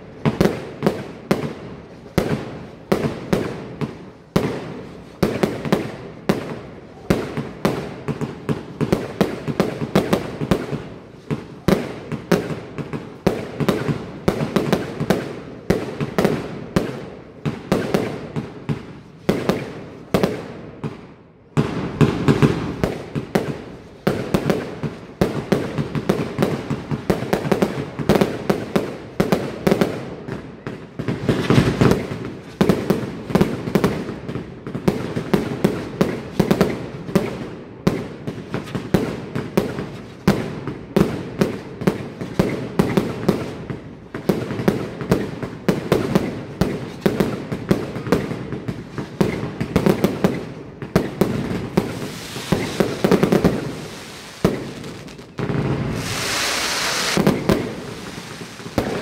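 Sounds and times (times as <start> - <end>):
fireworks launches and bursts: 0.0 - 59.0.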